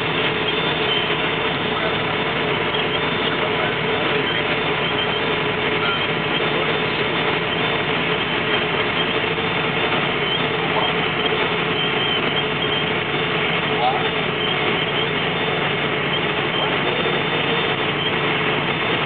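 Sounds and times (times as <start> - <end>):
truck engine and road drone: 0.0 - 19.0.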